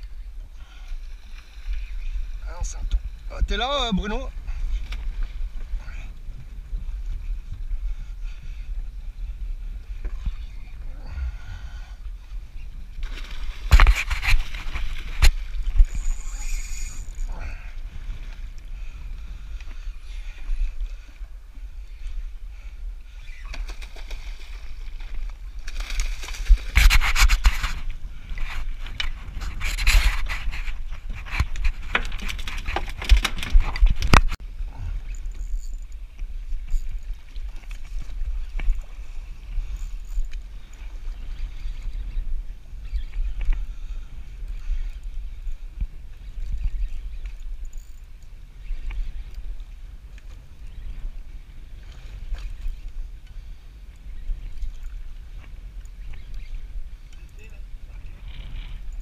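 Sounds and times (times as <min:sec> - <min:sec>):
boat low rumble: 0:00.0 - 0:25.6, 0:27.6 - 0:59.0
water noise: 0:00.0 - 0:59.0.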